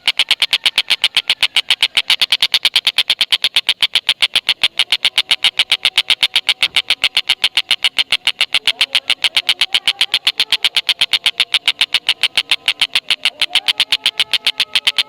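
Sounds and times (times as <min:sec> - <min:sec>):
bird call of rapid sharp notes: 0:00.0 - 0:15.0.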